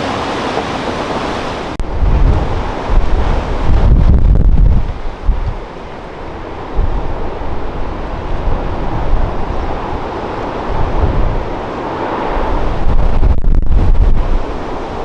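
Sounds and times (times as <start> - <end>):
gale wind buffeting microphone: 0.0 - 15.0
surf breaking and washing: 0.0 - 15.0.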